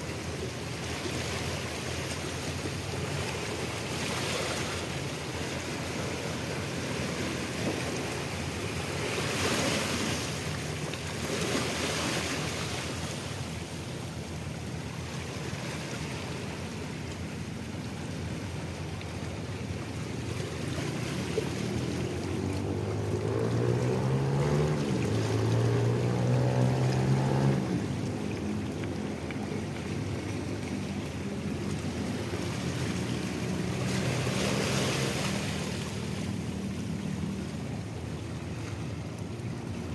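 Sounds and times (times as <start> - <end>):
waves washing against rocks: 0.0 - 39.9
wind: 0.0 - 39.9.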